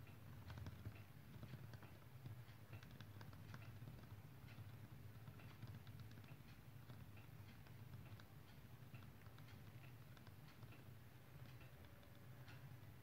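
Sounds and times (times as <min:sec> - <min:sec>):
light irregular ticking: 0:00.0 - 0:13.0.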